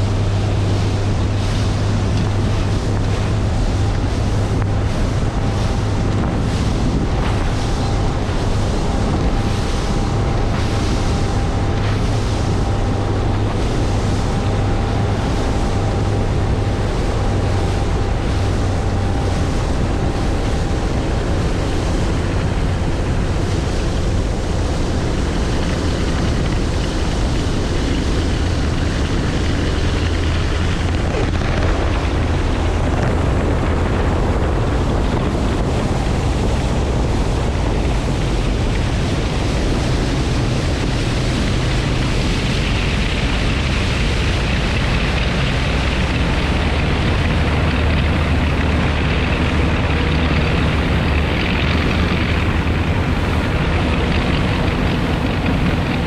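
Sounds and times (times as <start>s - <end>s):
boat engine drone: 0.0s - 56.0s
water rushing: 0.0s - 56.0s
wind buffeting microphone: 0.0s - 56.0s.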